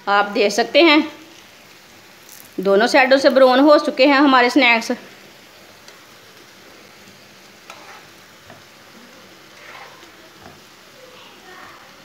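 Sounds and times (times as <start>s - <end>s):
potato patties sizzling in oil: 0.0s - 12.0s.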